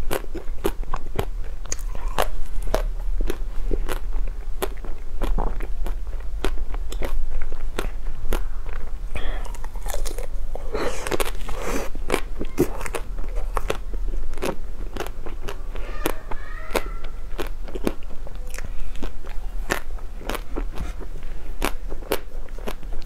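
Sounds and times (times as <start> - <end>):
person chewing crisp food: 0.0 - 23.0.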